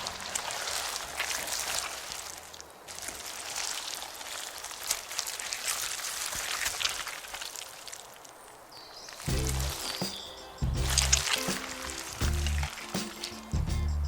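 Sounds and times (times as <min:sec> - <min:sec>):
sharp drips: 0:00.0 - 0:08.4, 0:09.1 - 0:13.9
water pattering and splashing: 0:00.0 - 0:08.4, 0:09.1 - 0:14.0.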